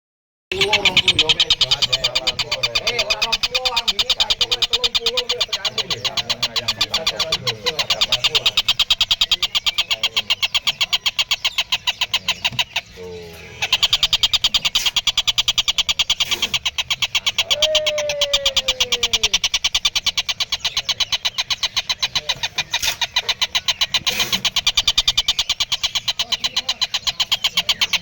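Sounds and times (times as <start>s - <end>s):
kingfisher rapid-fire call: 0.5s - 28.0s.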